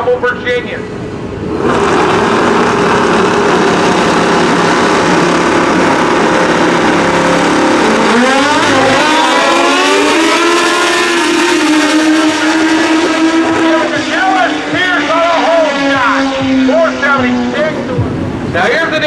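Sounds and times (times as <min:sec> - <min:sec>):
motorcycles at full throttle: 0:00.8 - 0:19.0.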